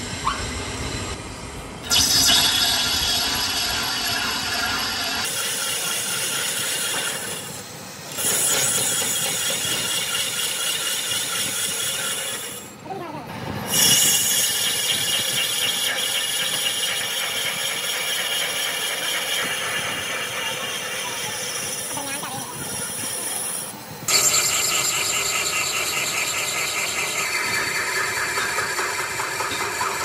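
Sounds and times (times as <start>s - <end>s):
lathe tool scraping metal disc: 1.9s - 12.7s, 13.7s - 30.0s.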